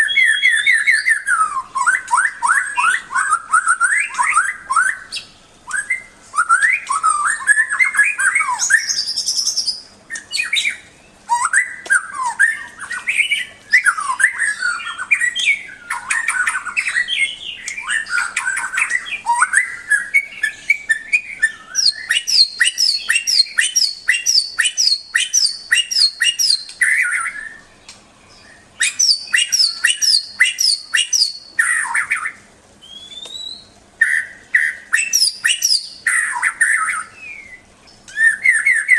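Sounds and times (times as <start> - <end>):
songbird warbling song: 0.0 - 38.9.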